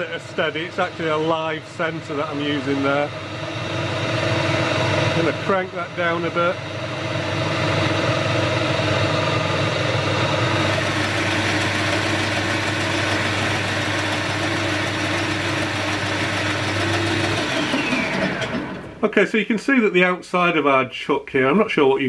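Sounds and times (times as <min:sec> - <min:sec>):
lathe motor and gear hum: 0:00.0 - 0:19.1
machine winding down whine: 0:00.0 - 0:19.2.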